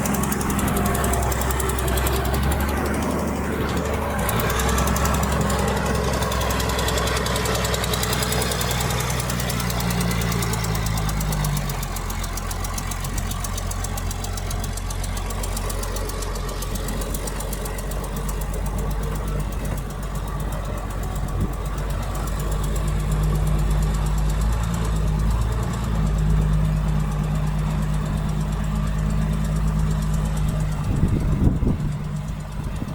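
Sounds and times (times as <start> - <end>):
heavy diesel engine running: 0.0 - 32.9.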